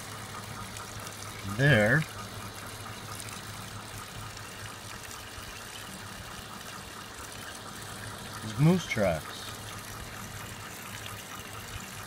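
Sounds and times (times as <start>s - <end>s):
spring water trickling: 0.0s - 12.0s.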